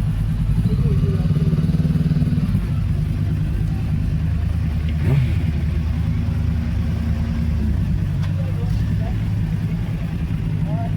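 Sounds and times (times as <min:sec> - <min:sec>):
vehicle engine idling: 0:00.0 - 0:10.9.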